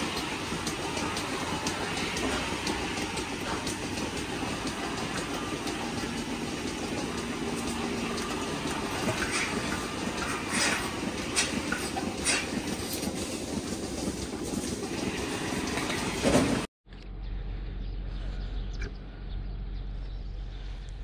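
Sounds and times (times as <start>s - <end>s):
mechanical rumble: 0.0s - 21.0s.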